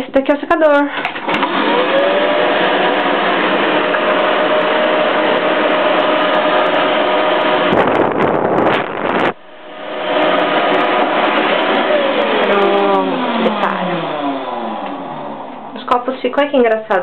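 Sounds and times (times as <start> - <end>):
hair dryer blowing air: 0.9 - 16.6.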